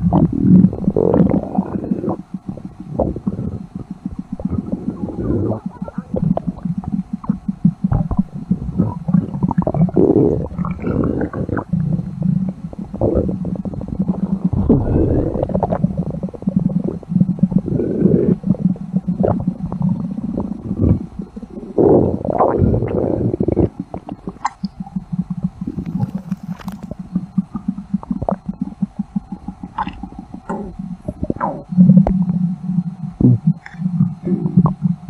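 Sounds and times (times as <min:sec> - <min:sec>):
stomach gurgling and rumbling: 0:00.0 - 0:35.0.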